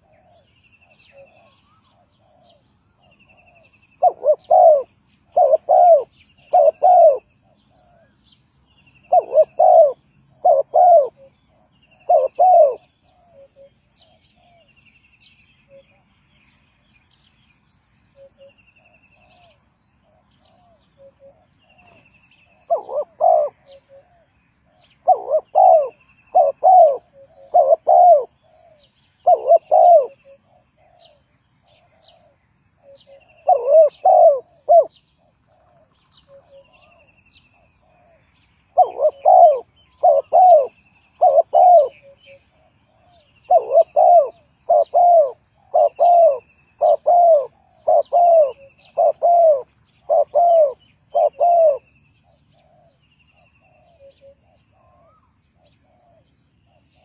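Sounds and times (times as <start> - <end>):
dove cooing: 0.0 - 8.2, 9.0 - 14.8, 18.2 - 57.0.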